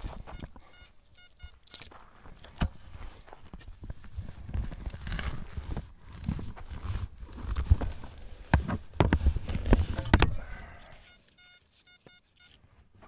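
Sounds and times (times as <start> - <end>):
spade digging dry soil: 0.0 - 12.6.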